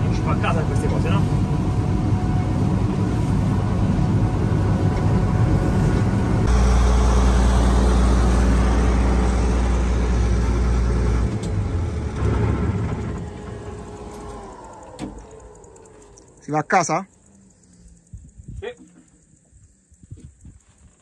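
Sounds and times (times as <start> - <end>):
combine harvester drone: 0.0 - 19.7.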